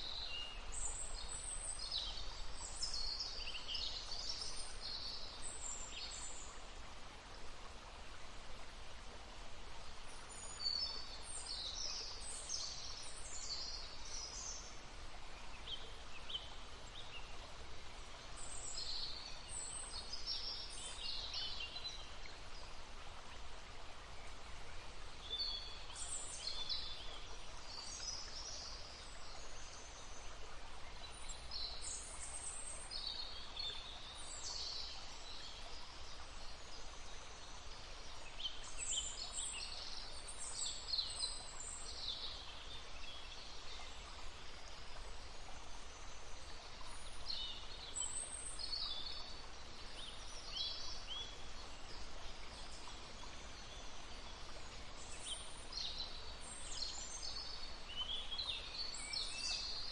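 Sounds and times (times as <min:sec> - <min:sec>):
stream babbling: 0:00.0 - 0:59.9
songbirds singing: 0:10.0 - 0:59.9.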